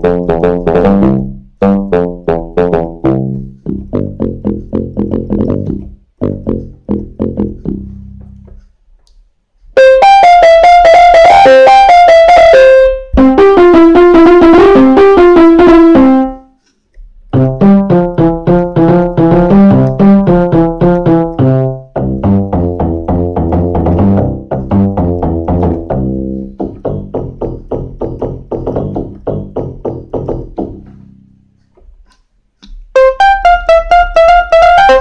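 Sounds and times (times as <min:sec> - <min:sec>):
electronic keyboard melody: 0:00.0 - 0:08.6, 0:09.7 - 0:16.6, 0:17.3 - 0:31.7, 0:32.9 - 0:35.0.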